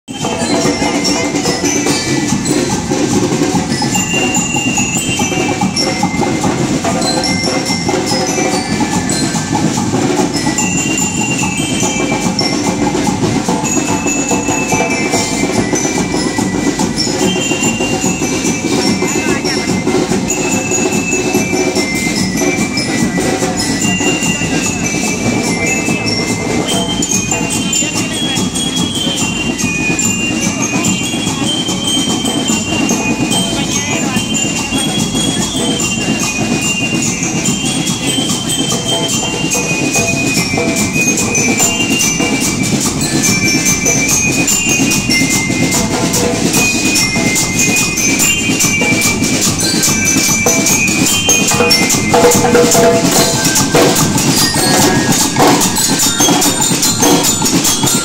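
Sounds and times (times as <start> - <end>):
bell lyres ringing melody: 0.1 - 58.0
marching drums: 0.1 - 58.0.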